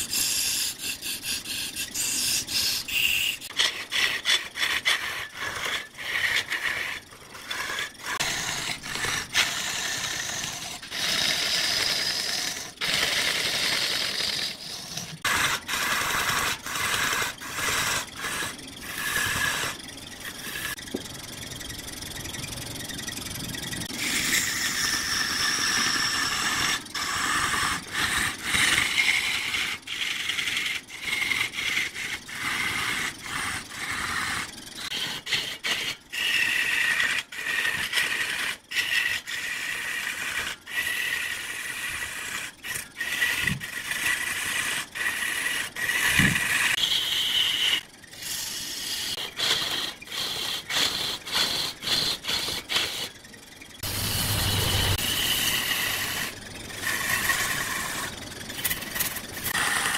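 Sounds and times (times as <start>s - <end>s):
lathe tool scraping wood: 0.0s - 21.4s, 23.7s - 53.2s, 53.8s - 59.9s.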